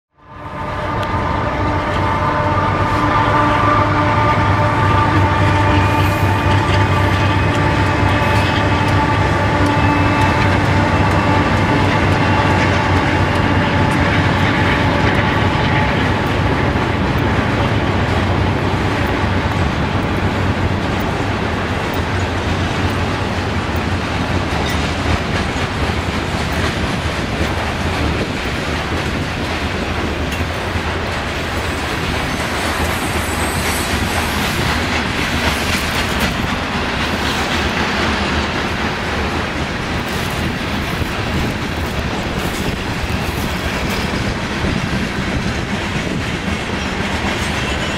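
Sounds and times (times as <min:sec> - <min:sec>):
diesel locomotive engine hum: 0:00.2 - 0:47.9
train wheels clickety-clack: 0:00.9 - 0:47.9
freight cars rolling rumble: 0:05.6 - 0:47.9.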